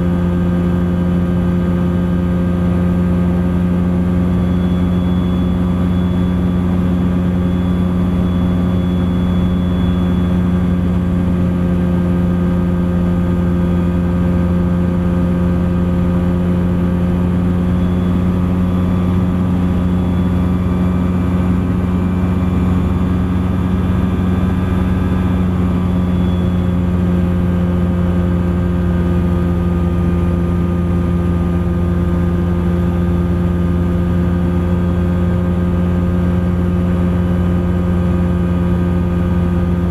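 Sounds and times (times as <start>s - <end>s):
ultralight aircraft engine droning: 0.0s - 39.9s.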